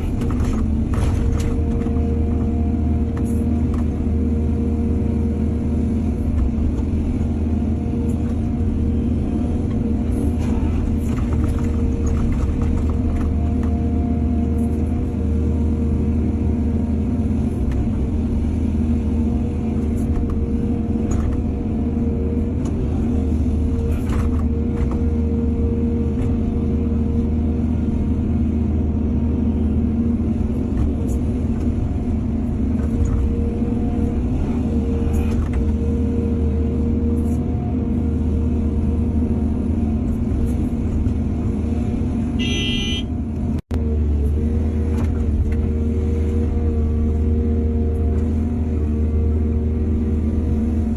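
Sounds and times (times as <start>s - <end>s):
diesel engine rumbling: 0.0s - 50.9s.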